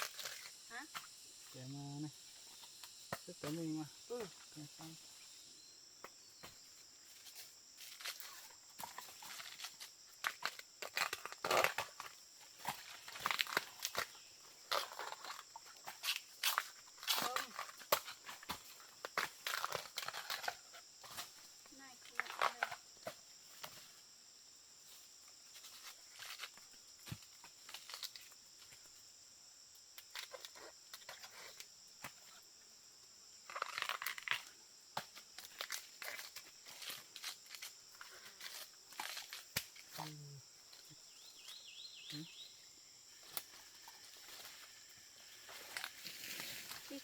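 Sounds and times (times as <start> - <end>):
faint high insect drone: 0.0 - 47.0.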